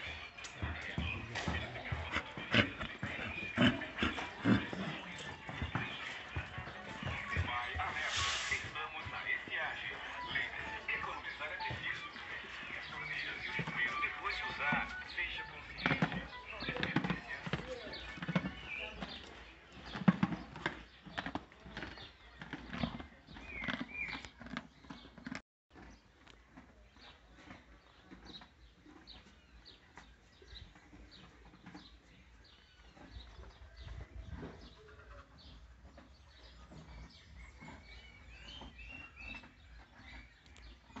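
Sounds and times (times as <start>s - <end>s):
donkeys crunching grain: 0.0s - 41.0s
small birds chirping: 0.0s - 41.0s.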